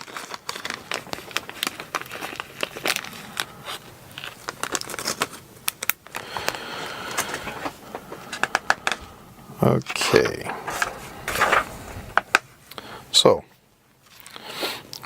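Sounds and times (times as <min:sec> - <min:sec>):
plastic packaging crinkling: 0:00.0 - 0:09.1, 0:09.8 - 0:12.9, 0:14.0 - 0:14.5.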